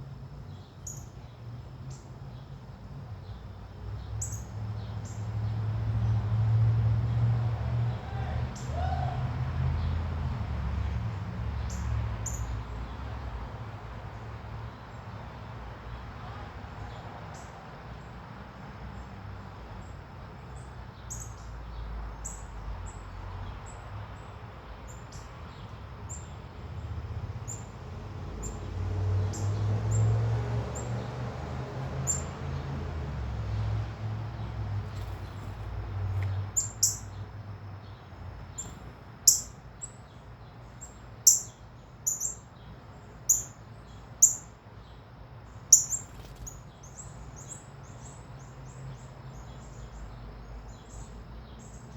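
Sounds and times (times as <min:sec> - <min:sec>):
small birds chirping: 0:00.4 - 0:06.2, 0:10.8 - 0:18.2, 0:19.0 - 0:27.8, 0:28.4 - 0:51.9.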